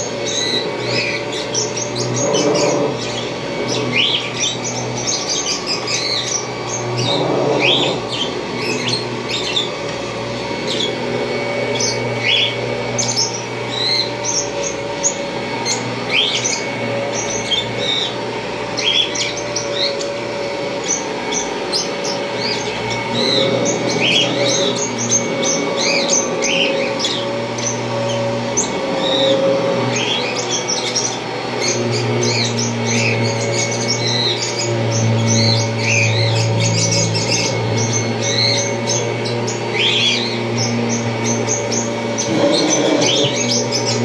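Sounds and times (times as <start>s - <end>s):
vacuum cleaner motor hum: 0.0s - 44.0s.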